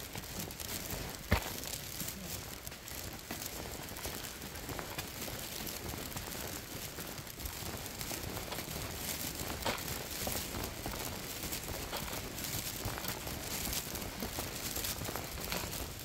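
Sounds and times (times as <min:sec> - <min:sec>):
crackly rustling: 0:00.0 - 0:16.0
footsteps on stone steps: 0:00.0 - 0:16.0.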